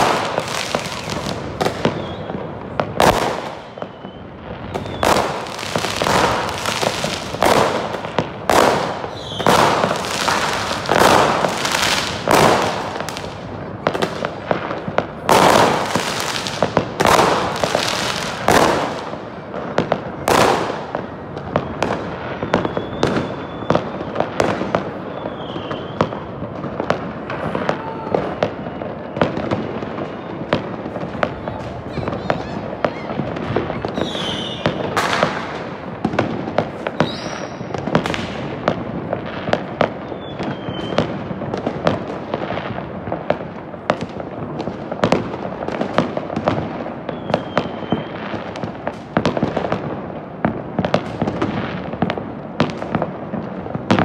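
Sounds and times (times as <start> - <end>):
firecracker pops and crackle: 0.0 - 54.0
fireworks and firecrackers bangs: 0.0 - 54.0.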